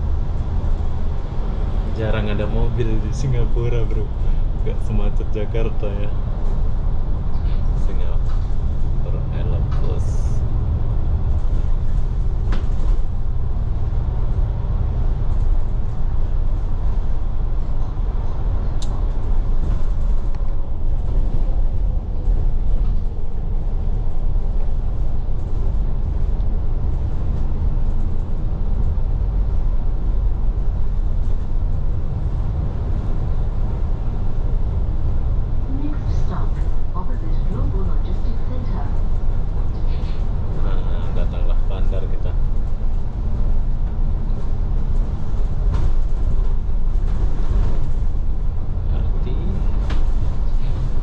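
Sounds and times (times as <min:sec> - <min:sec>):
bus engine and road noise: 0:00.0 - 0:51.0.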